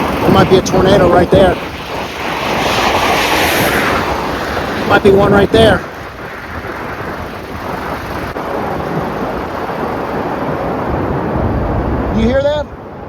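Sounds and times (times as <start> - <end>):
deep roar of storm: 0.0 - 13.0.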